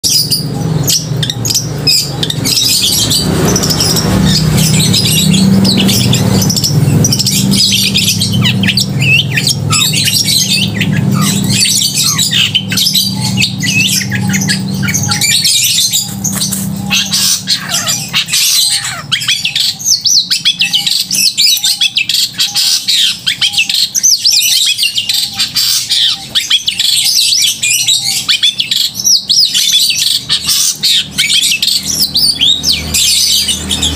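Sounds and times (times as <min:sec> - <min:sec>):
bird singing fast chirps: 0:00.0 - 0:33.9.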